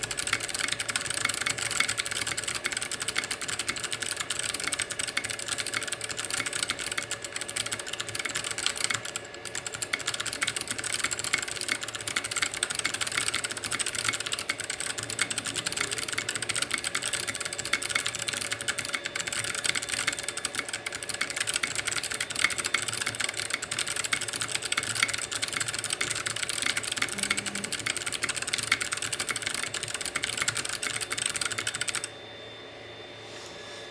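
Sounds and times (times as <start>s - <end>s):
mechanical keyboard typing: 0.0s - 32.1s.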